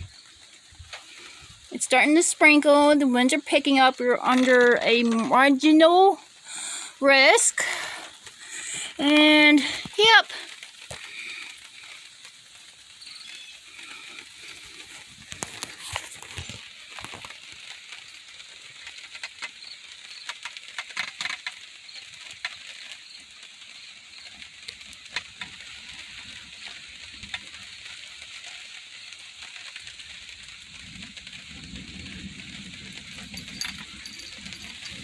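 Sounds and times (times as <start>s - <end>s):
light rain hissing: 0.0s - 35.0s
raindrops ticking: 0.0s - 35.0s.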